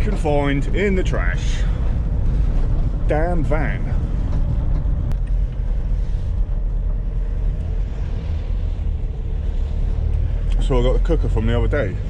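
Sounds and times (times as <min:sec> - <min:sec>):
van engine droning: 0:00.0 - 0:12.0.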